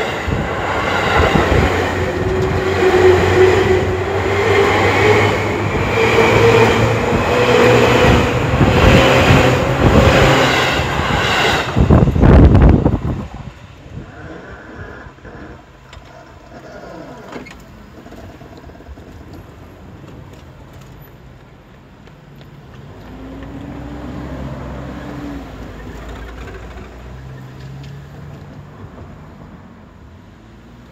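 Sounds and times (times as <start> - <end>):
passing train rumble: 0.0 - 16.0, 17.7 - 30.8
distant rail and road traffic: 0.0 - 30.9.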